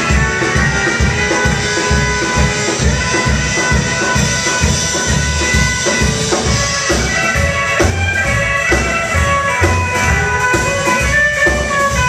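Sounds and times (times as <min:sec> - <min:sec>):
drums: 0:00.0 - 0:12.0
long held lead notes: 0:00.0 - 0:12.0
upright bass: 0:00.0 - 0:12.0.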